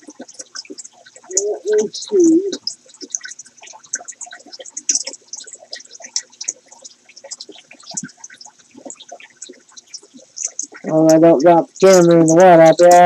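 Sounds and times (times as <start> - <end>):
faint steady hum: 0.0 - 13.0
water trickling and dripping: 0.0 - 13.0.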